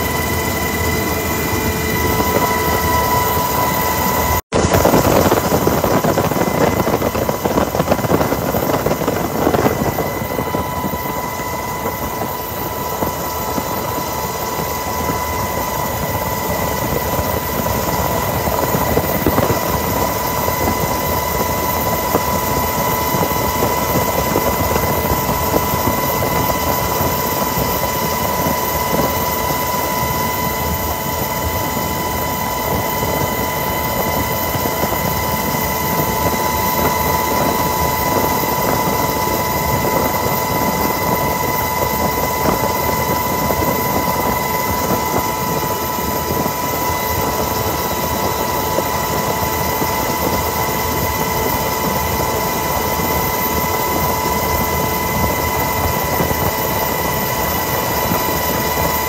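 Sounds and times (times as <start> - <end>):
helicopter rotor and engines: 0.0 - 59.0
high-pitched whine: 0.0 - 59.0.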